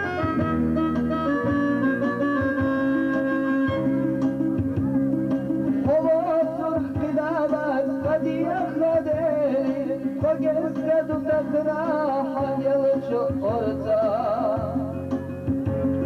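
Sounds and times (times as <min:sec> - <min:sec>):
person singing folk song: 0:00.0 - 0:16.0
regular low beat: 0:00.1 - 0:16.0.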